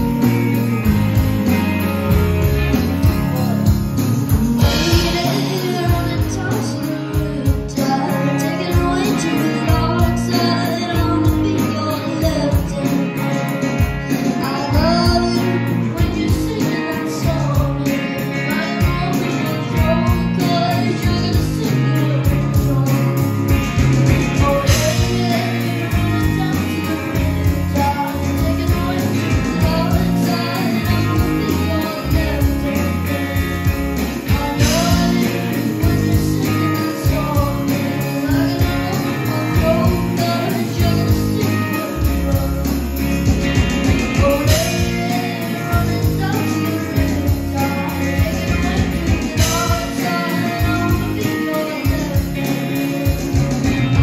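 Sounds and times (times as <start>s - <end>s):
person singing: 0.0s - 54.0s.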